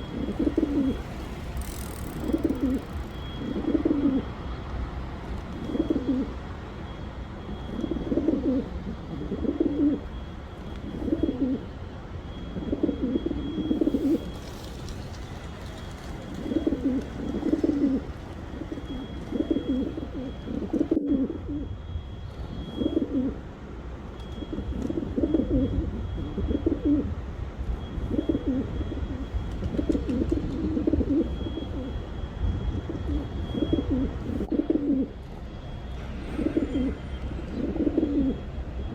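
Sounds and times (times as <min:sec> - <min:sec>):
pigeons cooing: 0:00.0 - 0:04.6, 0:05.5 - 0:06.5, 0:07.4 - 0:10.2, 0:10.8 - 0:14.6, 0:15.2 - 0:21.8, 0:22.4 - 0:23.5, 0:24.3 - 0:27.2, 0:27.9 - 0:35.2, 0:36.0 - 0:38.9.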